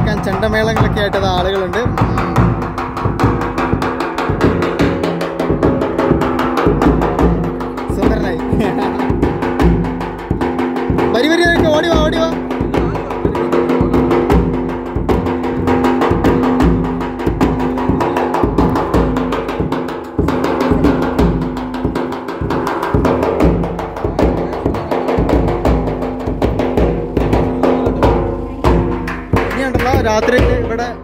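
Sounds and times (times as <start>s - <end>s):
drums beaten in fast rhythm: 0.0s - 31.0s.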